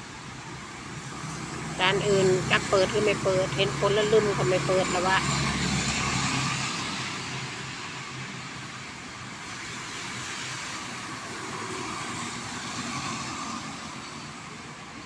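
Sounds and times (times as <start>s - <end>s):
road traffic passing: 0.4s - 14.8s.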